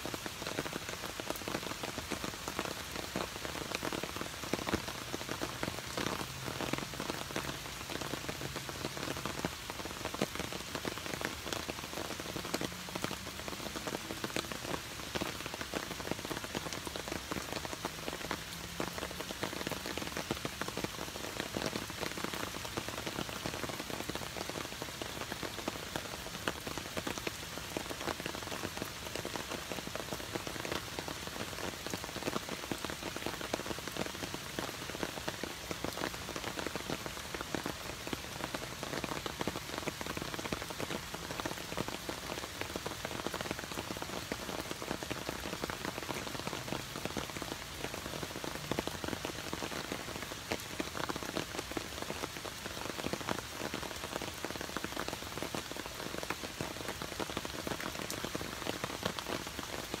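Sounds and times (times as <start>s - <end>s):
rain on foliage and gravel: 0.0s - 60.0s.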